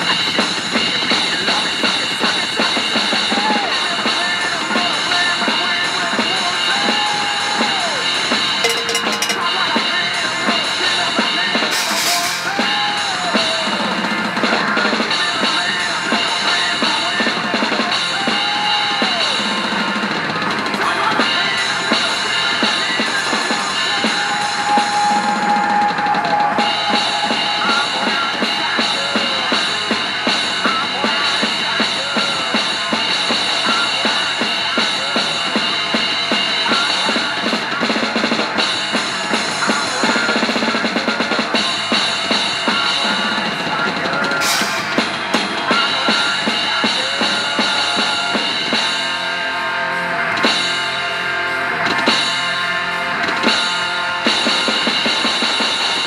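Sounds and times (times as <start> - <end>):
drum kit played hard: 0.0 - 56.0
thrash metal band: 0.0 - 56.0.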